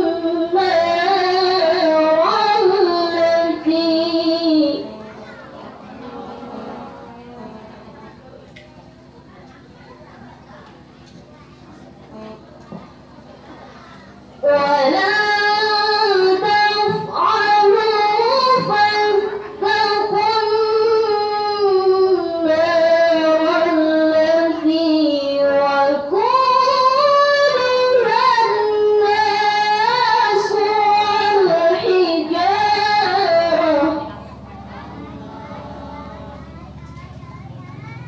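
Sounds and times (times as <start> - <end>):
girl reciting melodically: 0.0 - 38.0.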